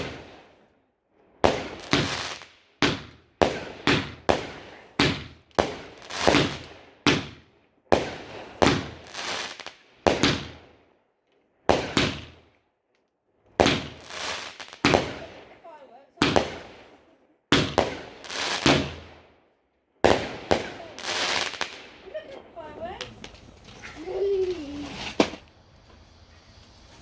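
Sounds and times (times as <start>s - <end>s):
fireworks banging: 0.0s - 0.4s, 1.4s - 10.7s, 11.7s - 12.4s, 13.6s - 15.6s, 16.2s - 19.3s, 20.0s - 27.0s.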